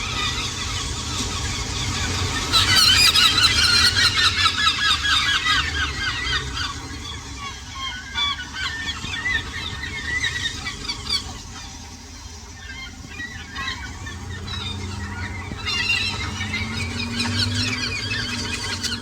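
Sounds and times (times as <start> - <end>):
flock of birds calling: 0.0 - 19.0.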